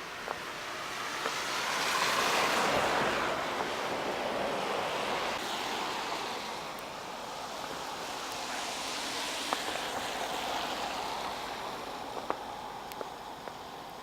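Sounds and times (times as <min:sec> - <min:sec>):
tyres hissing on slushy road: 0:00.0 - 0:14.0.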